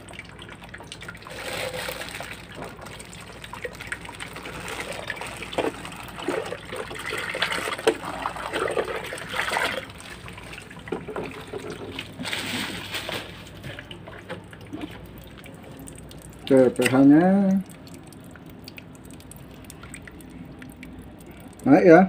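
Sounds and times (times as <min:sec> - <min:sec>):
liquid pouring into slurry: 0:00.0 - 0:21.9.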